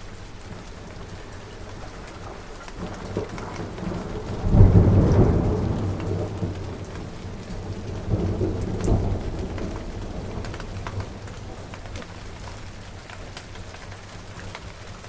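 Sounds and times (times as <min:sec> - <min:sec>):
thunder rumbling: 0:00.0 - 0:14.8
steady rain: 0:00.0 - 0:15.0.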